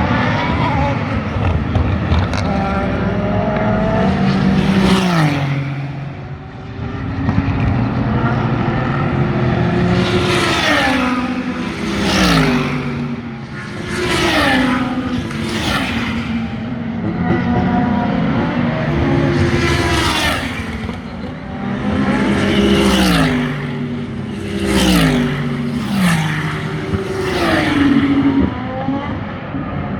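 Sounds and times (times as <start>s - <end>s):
race cars passing at speed: 0.0s - 29.9s.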